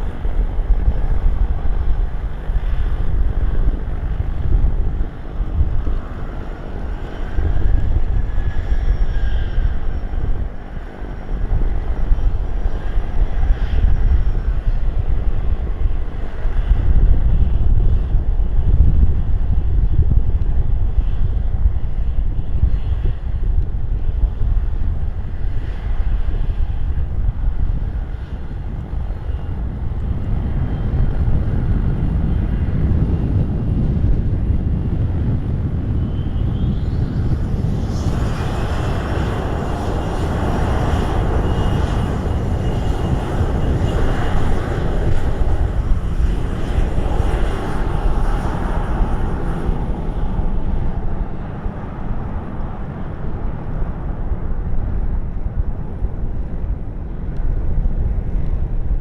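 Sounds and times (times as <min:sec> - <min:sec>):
jet airliner passing: 0:00.0 - 0:59.0
wind rumble on microphone: 0:00.0 - 0:59.0.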